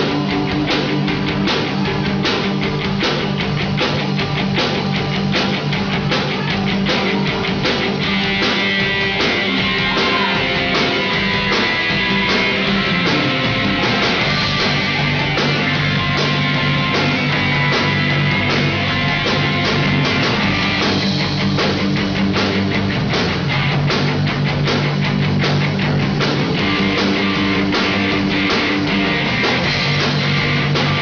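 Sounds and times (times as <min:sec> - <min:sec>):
drum kit steady beat: 0:00.0 - 0:31.0
electric guitars: 0:00.0 - 0:31.0.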